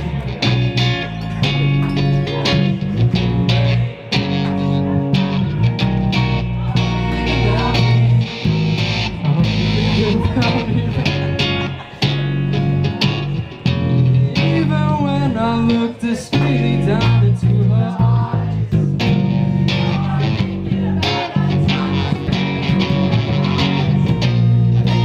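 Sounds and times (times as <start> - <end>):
acoustic guitar: 0.0 - 25.0
bass guitar: 0.0 - 25.0
electric guitar: 0.0 - 25.0.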